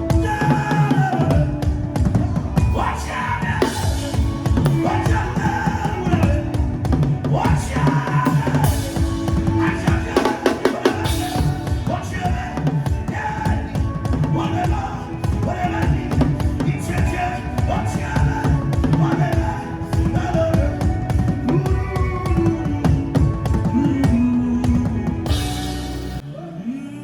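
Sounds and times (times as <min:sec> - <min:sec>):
higher melodic parts: 0:00.0 - 0:26.2
stepping bass line: 0:00.0 - 0:26.2
fast dense drumming: 0:03.6 - 0:26.2.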